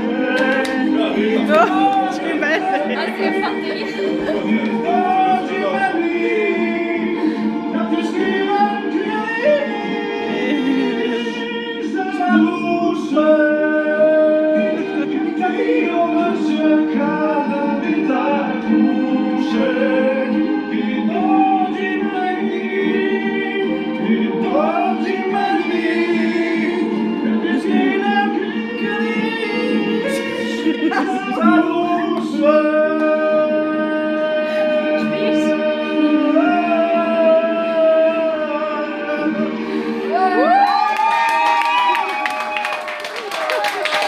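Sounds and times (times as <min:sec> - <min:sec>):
voices singing together: 0:00.0 - 0:44.0.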